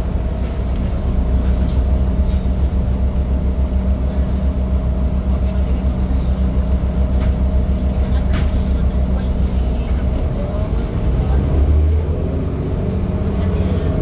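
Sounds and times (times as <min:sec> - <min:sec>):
bus diesel engine idling: 0:00.0 - 0:14.0.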